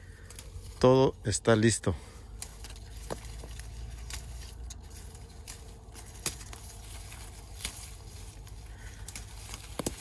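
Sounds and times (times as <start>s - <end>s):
leaves and twigs rustling: 0.0s - 10.0s
low steady rumble: 0.0s - 10.0s.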